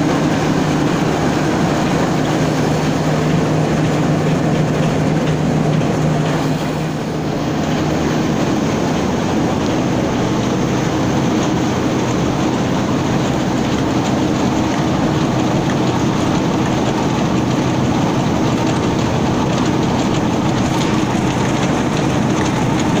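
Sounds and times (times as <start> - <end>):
flour mill machinery running: 0.0 - 23.0.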